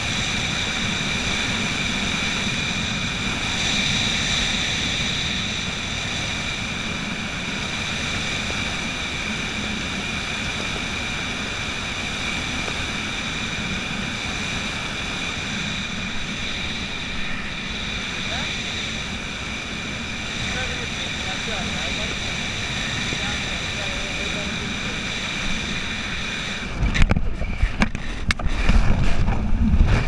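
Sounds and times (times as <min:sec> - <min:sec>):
faint high whines: 0:00.0 - 0:28.3
wind rushing over microphone: 0:00.0 - 0:30.0.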